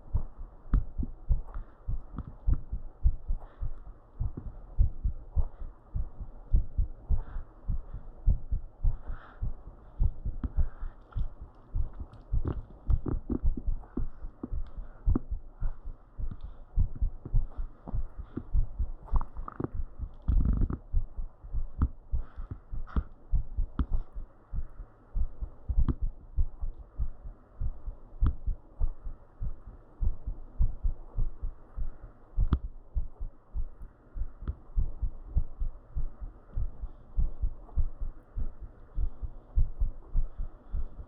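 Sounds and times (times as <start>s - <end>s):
heartbeat thumps: 0.0s - 41.0s.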